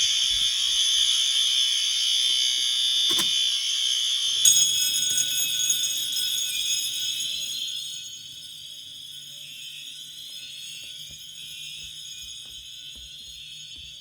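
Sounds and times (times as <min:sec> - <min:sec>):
fire alarms blaring: 0:00.0 - 0:14.0.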